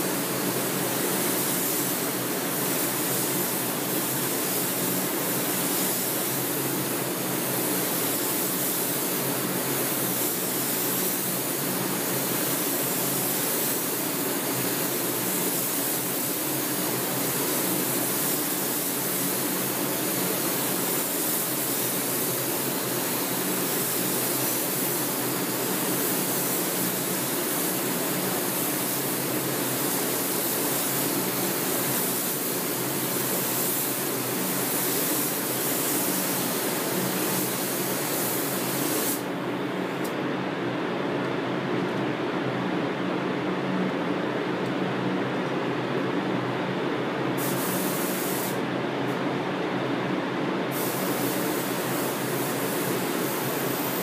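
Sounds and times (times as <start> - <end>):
spray gun air hiss: 0.0 - 40.1, 47.3 - 48.7, 50.6 - 54.0.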